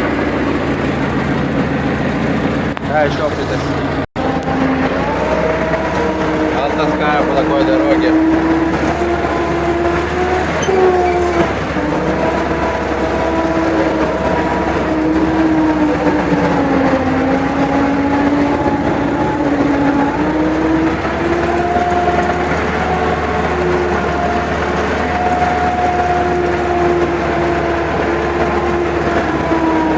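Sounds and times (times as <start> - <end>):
road rumble: 0.0 - 29.9
vehicle engine whine: 0.0 - 29.9.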